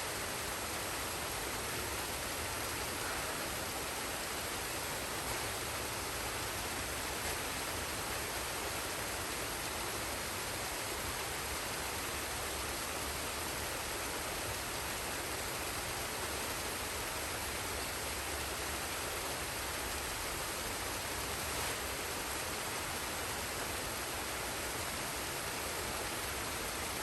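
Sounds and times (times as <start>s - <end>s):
water falling and rushing: 0.0s - 27.0s.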